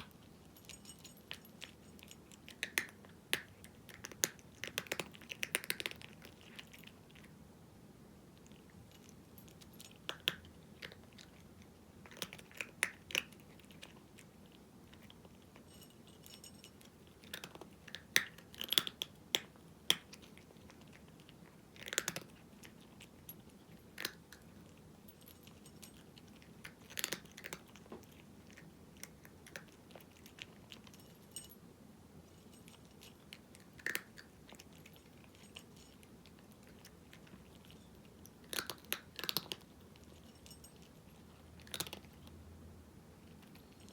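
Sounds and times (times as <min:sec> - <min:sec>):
cat crunching dry kibble: 0:00.0 - 0:07.4, 0:08.3 - 0:31.5, 0:32.2 - 0:42.4, 0:43.2 - 0:43.9.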